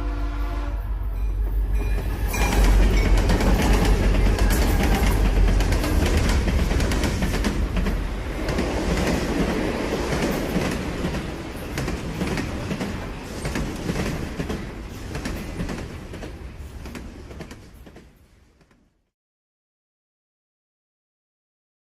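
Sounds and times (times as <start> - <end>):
train wheels clicking on rails: 1.2 - 18.8.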